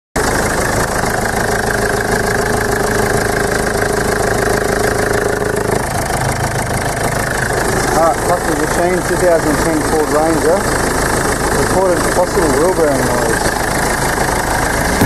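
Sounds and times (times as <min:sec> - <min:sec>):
car engine idling: 0:00.2 - 0:15.0
steady whine: 0:00.2 - 0:15.0.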